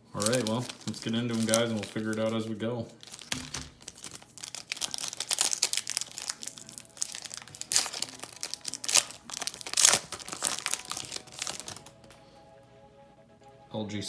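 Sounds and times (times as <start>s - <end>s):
wrapper crinkling and tearing: 0.0s - 12.2s.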